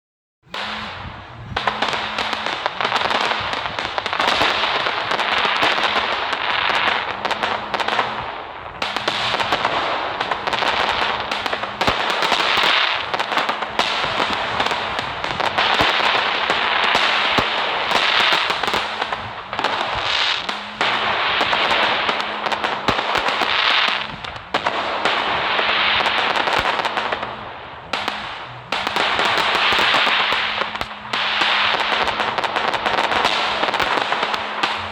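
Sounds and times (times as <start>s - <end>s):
fireworks crackling and popping: 0.4s - 34.9s.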